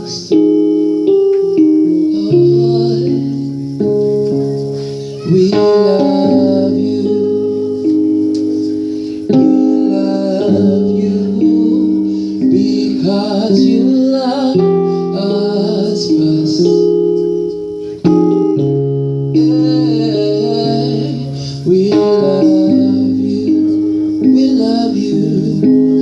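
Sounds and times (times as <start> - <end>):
keyboard playing held chords: 0.0 - 26.0
person singing softly: 0.0 - 26.0.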